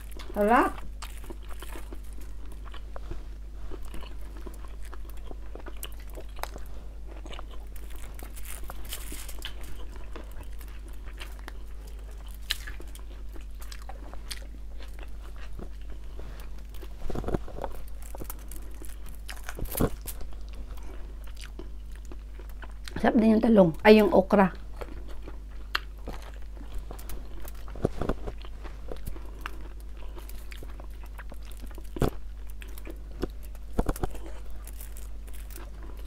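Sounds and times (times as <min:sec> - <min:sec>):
chewing food with crunches: 0:00.0 - 0:36.0.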